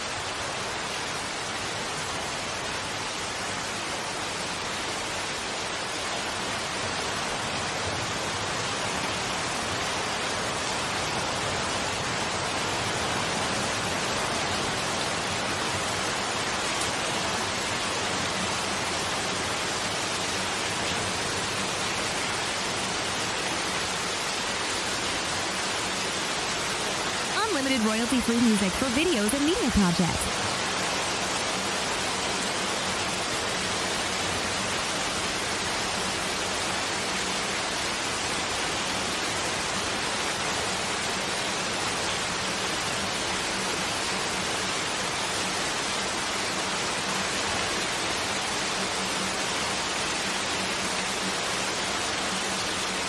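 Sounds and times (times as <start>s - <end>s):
steady rain in a forest: 0.0s - 53.0s.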